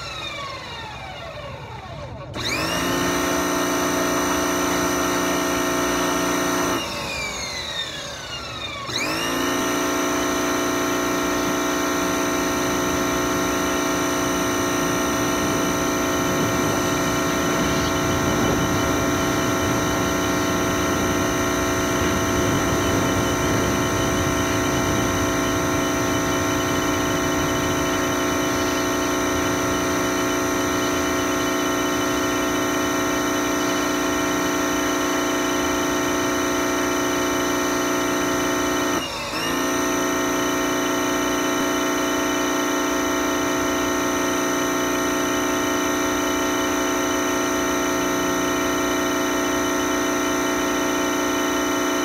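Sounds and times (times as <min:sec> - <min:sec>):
pressure washer motor running: 0:00.0 - 0:52.0.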